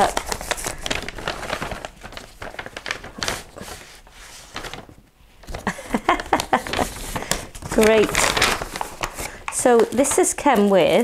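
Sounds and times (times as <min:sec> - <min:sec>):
paper envelope rustling: 0:00.0 - 0:11.0.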